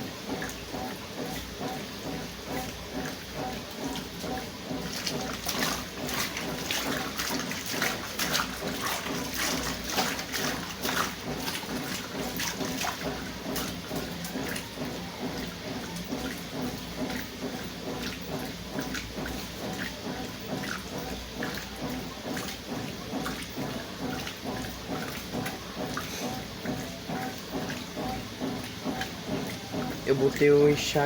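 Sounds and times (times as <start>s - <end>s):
washing machine low hum: 0.0s - 31.0s
water sloshing in washing machine: 0.0s - 31.0s.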